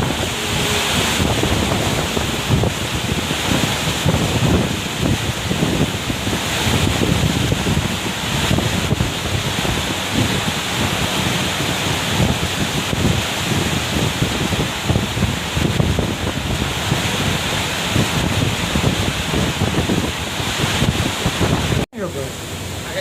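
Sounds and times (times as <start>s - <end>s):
gusty wind buffeting microphone: 0.0s - 23.0s
rough sea rushing: 0.0s - 23.0s.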